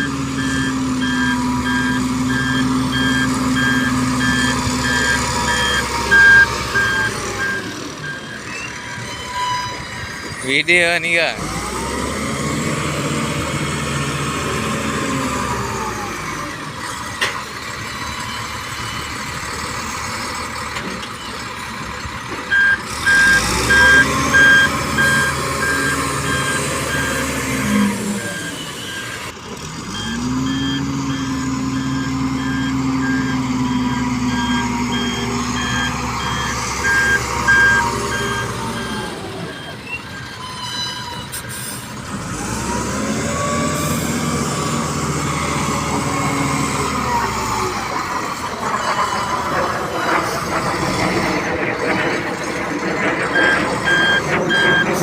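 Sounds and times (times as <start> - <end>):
reversing alarm beeping: 0.0 - 12.0, 17.7 - 19.6, 22.5 - 29.3, 29.9 - 41.9, 42.9 - 52.1, 52.8 - 55.0
truck engine revving: 0.0 - 55.0.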